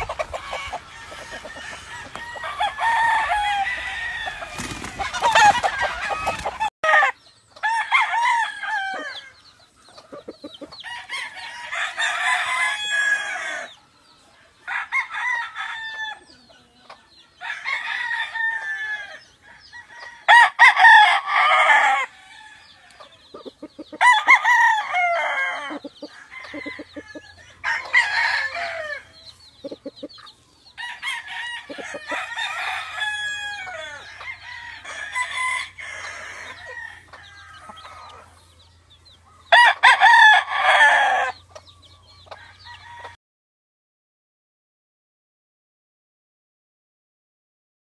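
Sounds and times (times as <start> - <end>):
roosters crowing: 0.0 - 16.5, 17.1 - 43.2.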